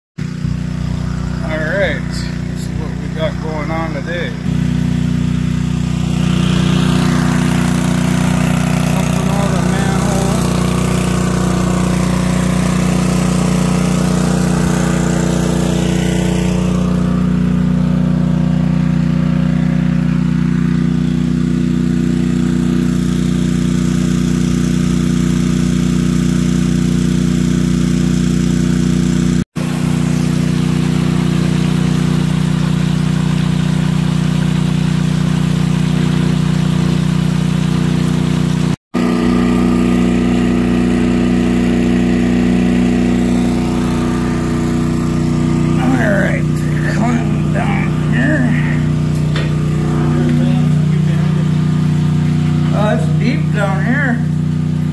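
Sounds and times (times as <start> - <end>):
water pump engine running: 0.2 - 54.9.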